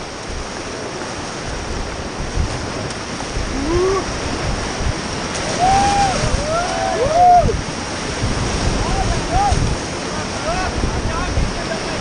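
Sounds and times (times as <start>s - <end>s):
river rapids rushing: 0.0s - 12.0s
wind and handling on microphone: 0.0s - 12.0s.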